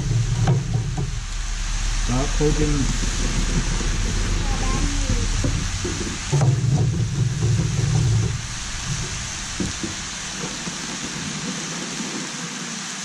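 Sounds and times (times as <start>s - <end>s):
low rumble: 0.0s - 12.4s
pork and onions sizzling in a wok: 0.0s - 13.0s.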